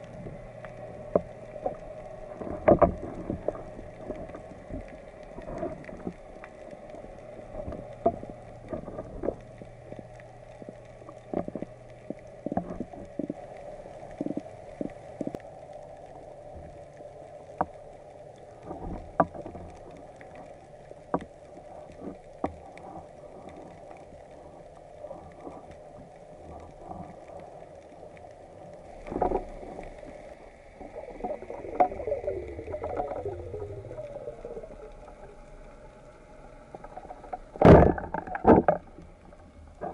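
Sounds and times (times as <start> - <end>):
crackling bubbles: 0.0 - 39.9
underwater water noise: 0.0 - 39.9.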